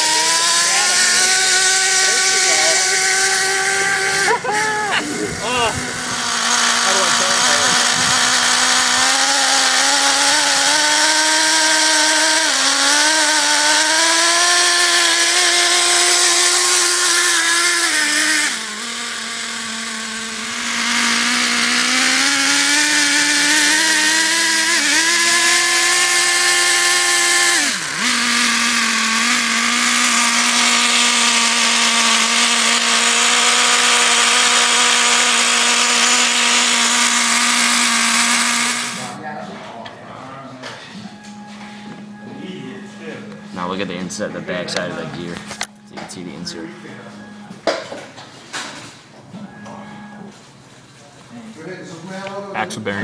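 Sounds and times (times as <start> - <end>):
nitro engine high-pitched buzz: 0.0 - 39.4, 40.1 - 50.6.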